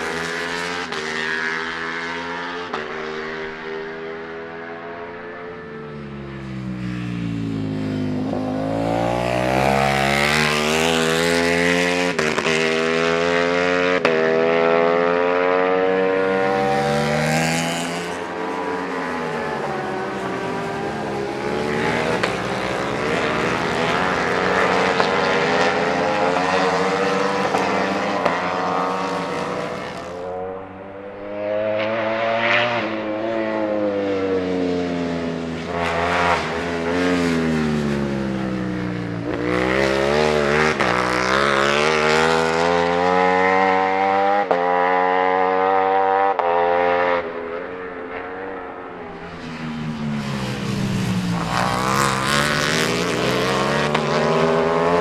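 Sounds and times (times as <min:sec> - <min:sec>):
motorcycle engines accelerating: 0:00.0 - 0:55.0.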